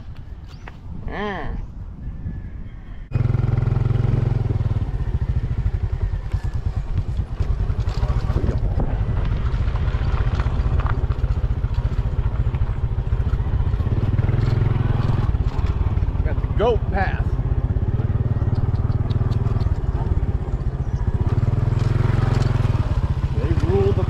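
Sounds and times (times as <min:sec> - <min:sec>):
motorcycle engine running: 0:03.0 - 0:24.0.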